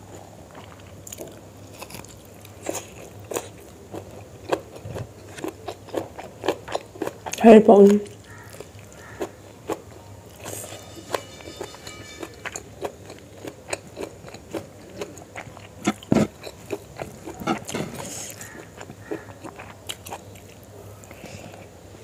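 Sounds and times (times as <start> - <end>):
person chewing food: 0.0 - 7.4, 8.0 - 21.8.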